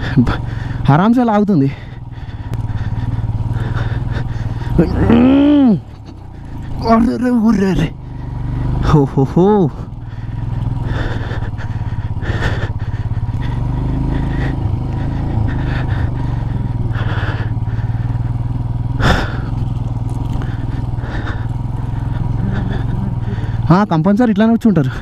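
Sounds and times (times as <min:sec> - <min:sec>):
gravel and suspension clatter: 0:00.0 - 0:25.0
motorcycle engine running: 0:00.0 - 0:25.0.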